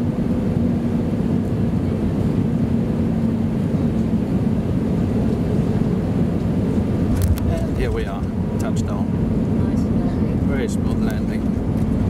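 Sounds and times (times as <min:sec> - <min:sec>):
airplane engine and airflow rumble: 0:00.0 - 0:12.0
steady low hum: 0:00.0 - 0:12.0.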